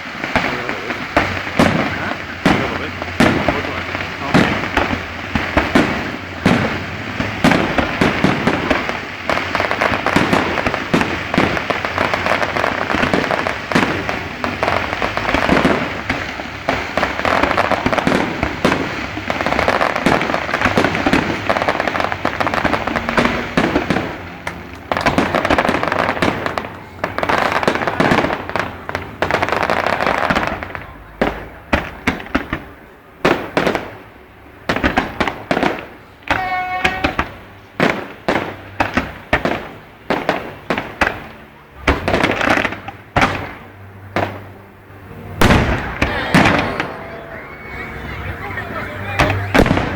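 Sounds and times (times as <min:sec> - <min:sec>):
fireworks bursting and crackling: 0:00.0 - 0:49.9.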